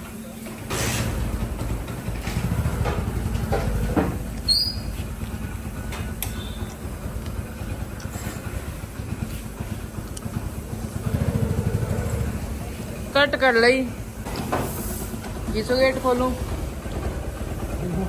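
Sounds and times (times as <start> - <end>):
scooter engine idling: 0.2 - 18.0.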